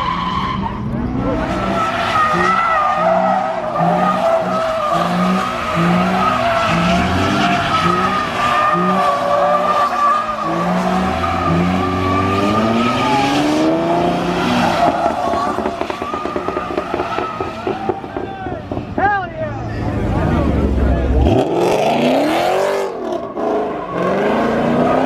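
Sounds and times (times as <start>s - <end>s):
car tyres squealing: 0.0s - 25.0s.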